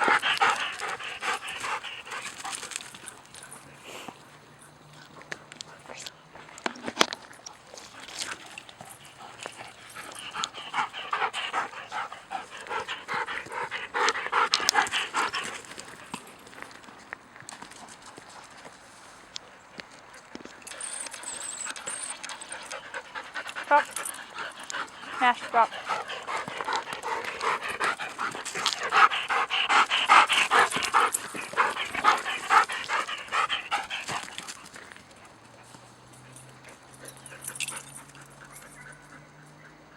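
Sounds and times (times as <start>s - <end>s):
dog panting: 0.0s - 4.2s, 5.6s - 17.0s, 17.6s - 39.3s.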